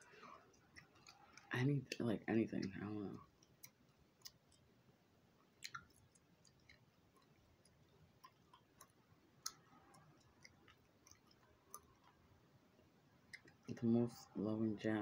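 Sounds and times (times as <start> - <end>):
gum chewing and smacking: 0.0 - 14.0.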